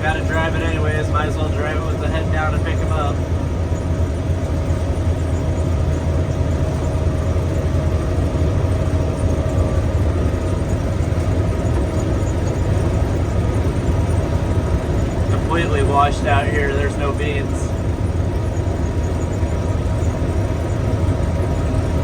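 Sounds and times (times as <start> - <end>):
combine harvester drone: 0.0 - 22.0
faint steady whine: 0.0 - 22.0.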